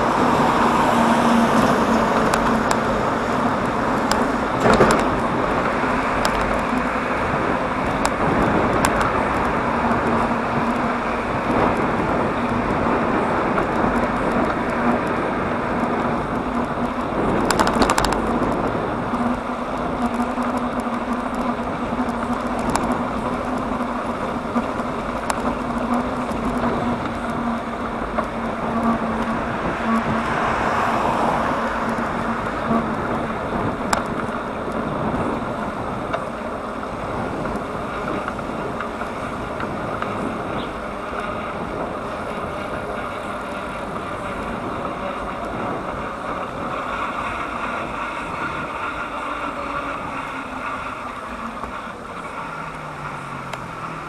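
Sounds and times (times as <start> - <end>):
bicycle road and wind noise: 0.0 - 54.0
passing traffic rush: 0.0 - 54.0.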